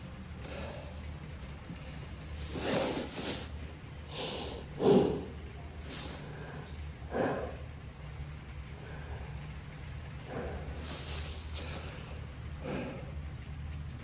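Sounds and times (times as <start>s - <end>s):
low steady hum: 0.0s - 14.0s
man breathing heavily: 0.4s - 7.9s, 8.7s - 13.4s.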